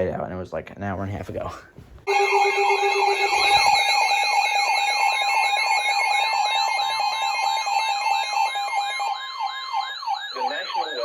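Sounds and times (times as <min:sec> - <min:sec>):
fast high warble: 0:02.1 - 0:11.0
siren-like sweep: 0:02.1 - 0:11.0
steady alarm tones: 0:02.1 - 0:11.0
weather radio alarms: 0:02.1 - 0:11.0.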